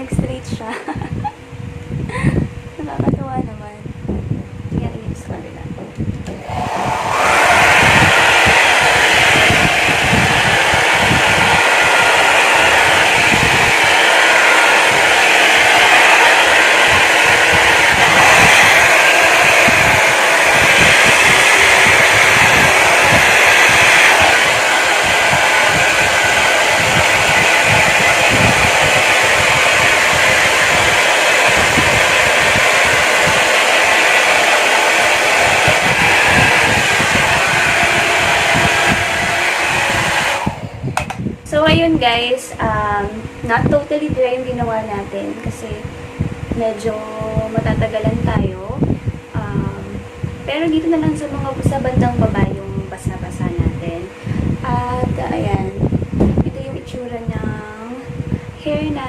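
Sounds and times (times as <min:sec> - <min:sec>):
hair dryer blowing: 0:02.1 - 0:02.5, 0:06.1 - 0:59.0.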